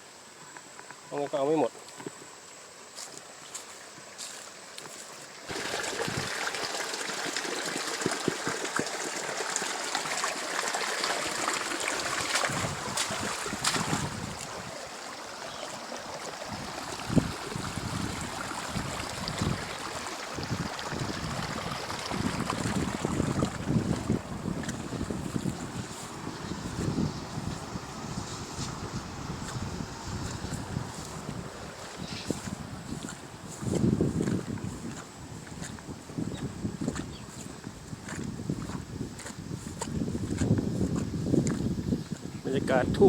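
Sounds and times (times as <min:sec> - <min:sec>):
stream water rushing: 0:03.2 - 0:43.0.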